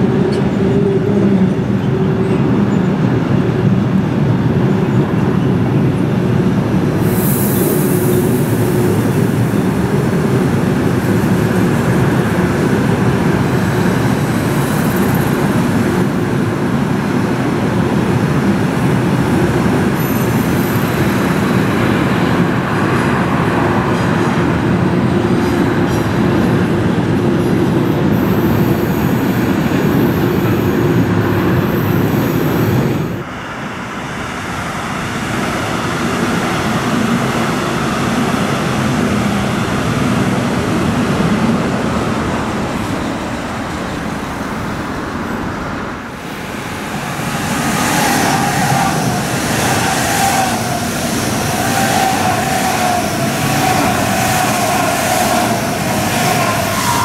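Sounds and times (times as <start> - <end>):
electric train approaching: 0.0 - 57.0
train wheels rumbling on rails: 0.0 - 57.0.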